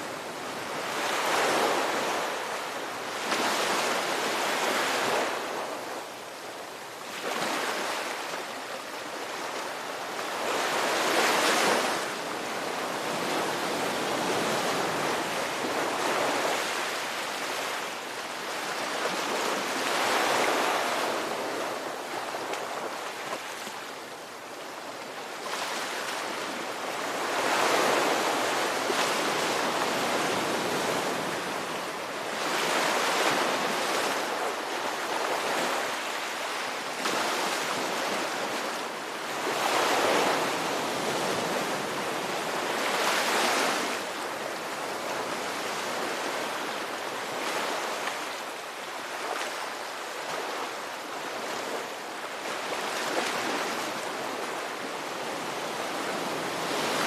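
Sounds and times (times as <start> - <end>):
ocean waves rolling in: 0.0 - 57.0.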